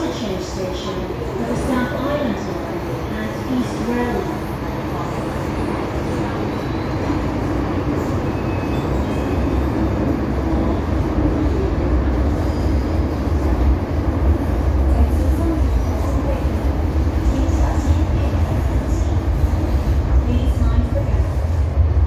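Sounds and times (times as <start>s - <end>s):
metro train rumble and rail noise: 0.0s - 22.0s.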